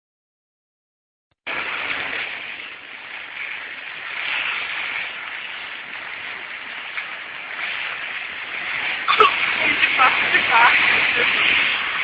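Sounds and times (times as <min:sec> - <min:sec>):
heavy rain falling: 0:01.4 - 0:12.0.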